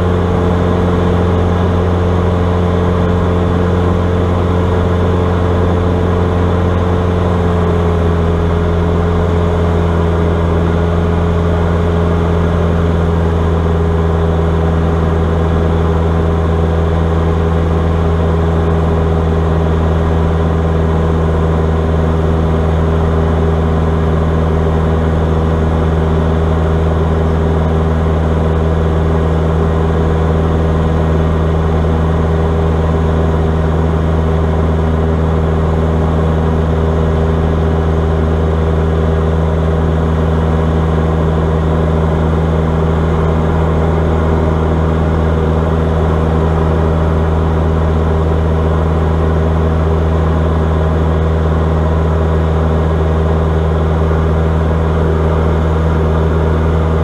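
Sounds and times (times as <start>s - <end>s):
aircraft piston engine and propeller: 0.0s - 57.0s.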